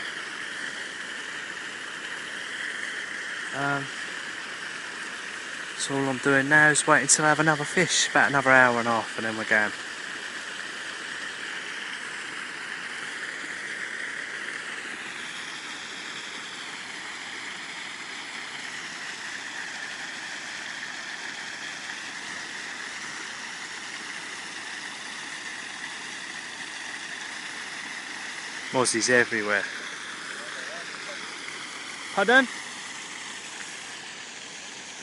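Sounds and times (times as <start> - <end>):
steady outdoor hiss: 0.0 - 35.0.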